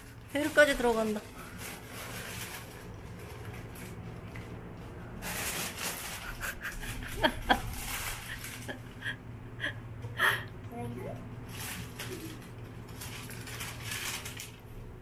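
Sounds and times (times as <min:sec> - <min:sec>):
plastic bag rustling: 0:00.0 - 0:09.2, 0:11.2 - 0:15.0.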